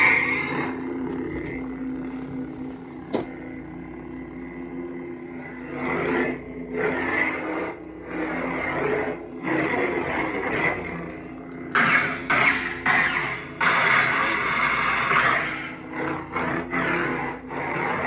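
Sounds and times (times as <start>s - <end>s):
lightsaber blade hum: 0.0s - 18.0s.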